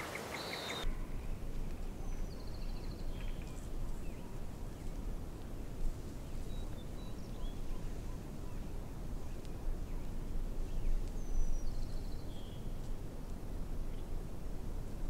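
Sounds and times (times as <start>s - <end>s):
small birds chirping: 0.0s - 5.0s, 5.8s - 12.9s
low outdoor rumble: 0.8s - 15.0s.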